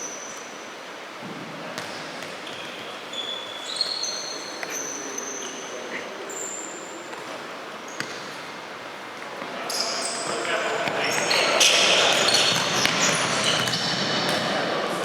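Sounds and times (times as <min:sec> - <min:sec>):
shoes squeaking on court floor: 0:01.8 - 0:15.0
hall hubbub: 0:02.4 - 0:15.0.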